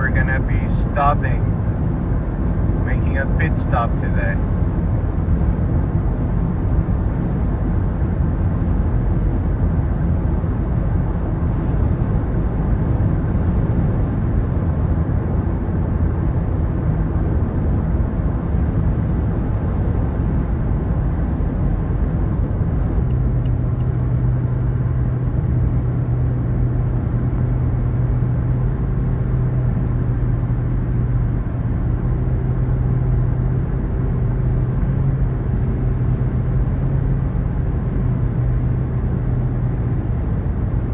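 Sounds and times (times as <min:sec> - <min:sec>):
steady low hum: 0:00.0 - 0:17.5, 0:20.0 - 0:40.9
car road rumble: 0:00.0 - 0:40.9.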